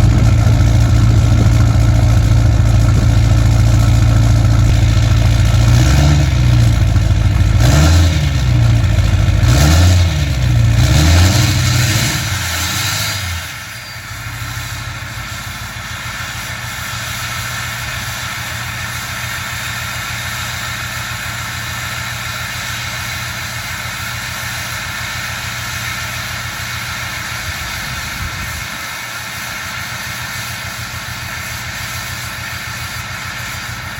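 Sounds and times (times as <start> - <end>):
diesel engine revving and idling: 0.0 - 33.9.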